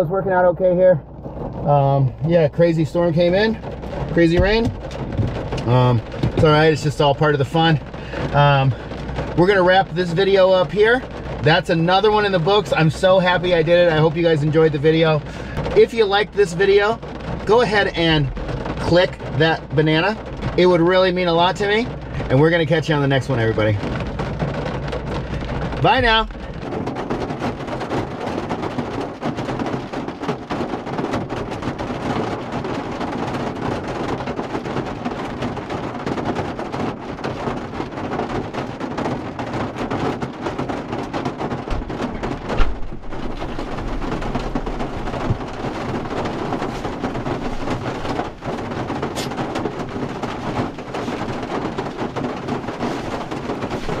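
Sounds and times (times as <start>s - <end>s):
heavy rain: 0.0s - 54.0s
low thump with rumble: 1.0s - 54.0s.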